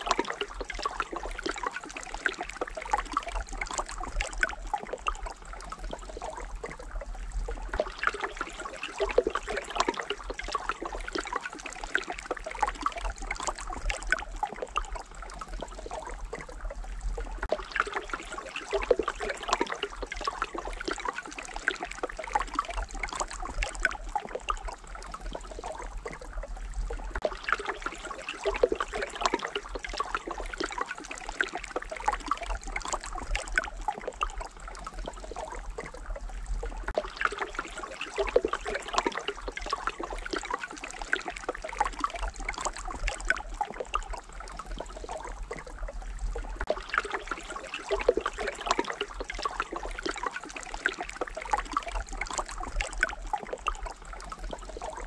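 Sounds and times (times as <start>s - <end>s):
stream babbling over pebbles: 0.0s - 55.0s.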